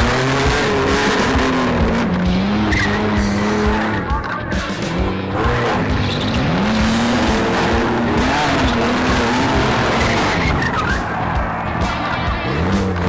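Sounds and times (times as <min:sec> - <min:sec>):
race car engines revving: 0:00.0 - 0:13.0
road and tyre noise: 0:00.0 - 0:13.0.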